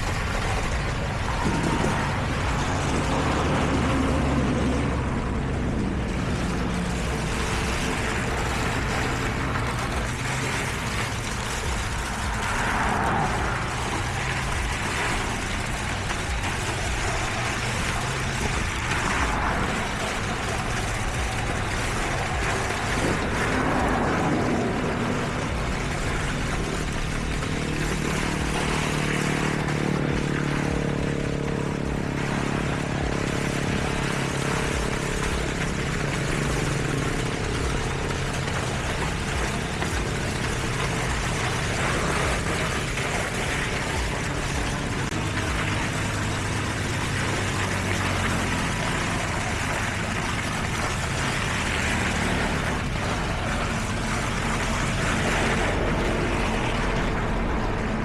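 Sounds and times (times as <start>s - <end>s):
diesel construction machinery running: 0.0s - 58.0s.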